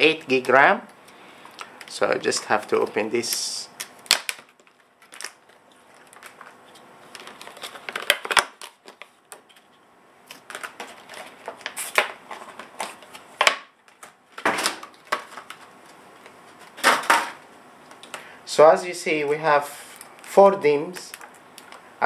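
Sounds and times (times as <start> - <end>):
plastic packaging crackling: 1.5 - 17.3, 19.9 - 21.8.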